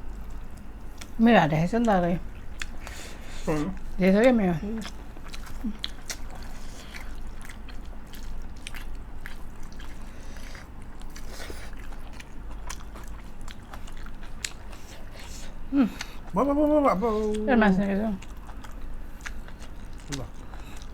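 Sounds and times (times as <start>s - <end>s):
chewing and wet mouth smacks: 1.8s - 16.4s, 18.2s - 20.9s.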